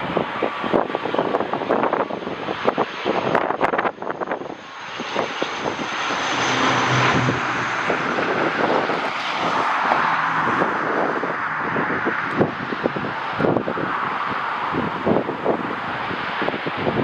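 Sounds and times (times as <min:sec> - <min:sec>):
airliner engines passing: 0:00.0 - 0:17.0
wind buffeting microphone: 0:00.0 - 0:17.0.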